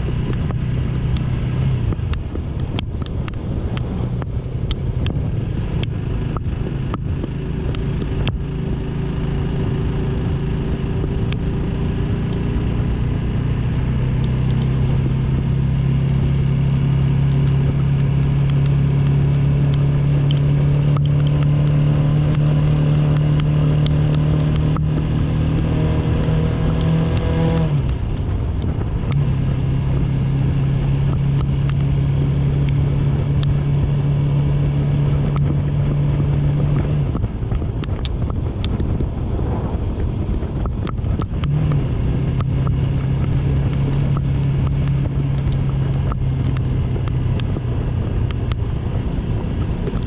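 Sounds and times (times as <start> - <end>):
motorcycle engine running: 0.0 - 50.0
wind rushing over microphone: 0.0 - 50.0.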